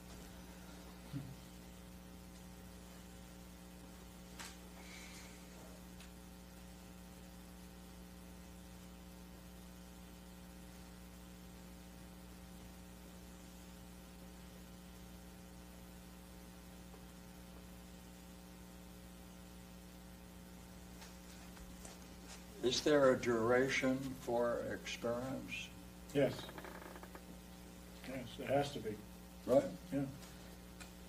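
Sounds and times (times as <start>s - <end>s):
faint electrical hum: 0.0s - 31.0s
recording hiss: 0.0s - 31.0s.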